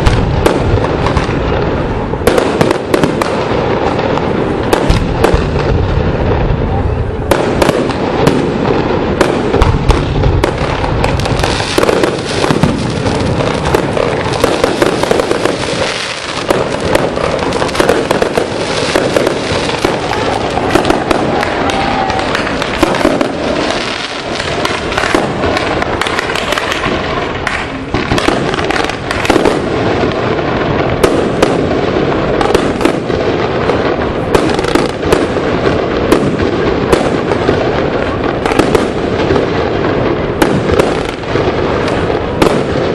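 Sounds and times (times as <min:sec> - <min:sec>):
fireworks bursts and crackling: 0:00.0 - 0:42.9.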